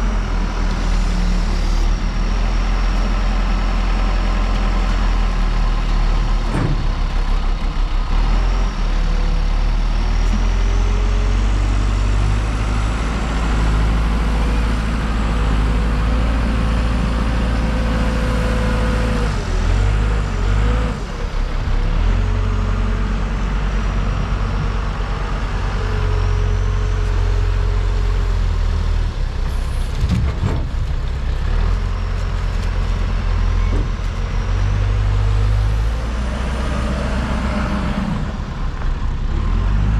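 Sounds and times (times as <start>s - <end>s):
diesel engine running hard: 0.0s - 39.9s.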